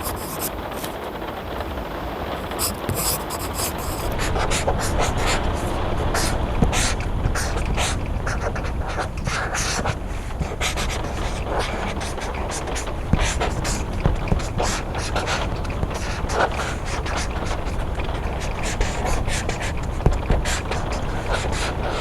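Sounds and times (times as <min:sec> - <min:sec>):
pencil scratching on paper: 0:00.0 - 0:01.0, 0:02.5 - 0:22.0
steady rain: 0:00.0 - 0:22.0.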